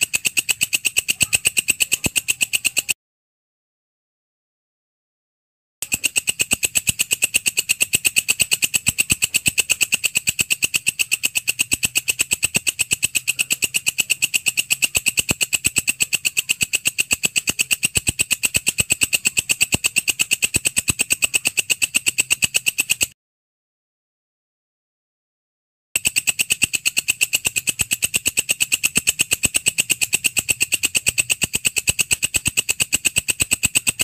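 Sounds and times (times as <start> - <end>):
grasshopper clicking pulses: 0.0 - 3.0, 5.8 - 23.2, 26.0 - 34.0.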